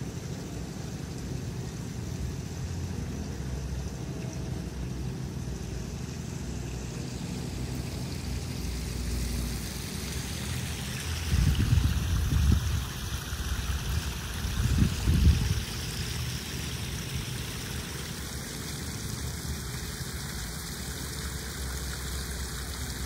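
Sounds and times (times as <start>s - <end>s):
low outdoor rumble: 0.0s - 23.0s
small waterfall splashing: 0.0s - 23.0s.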